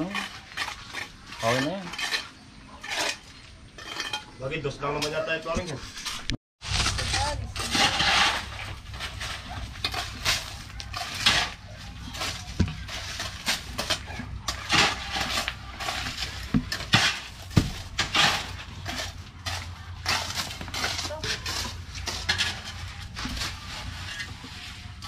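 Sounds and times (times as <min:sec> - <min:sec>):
metal tools clinking and scraping: 0:00.0 - 0:06.3, 0:07.0 - 0:24.6.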